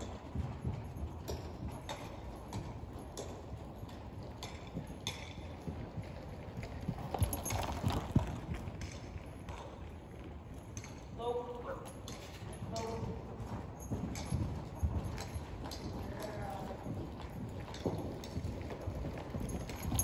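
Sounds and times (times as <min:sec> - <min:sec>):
hoofbeats on soft dirt: 0:00.0 - 0:20.0.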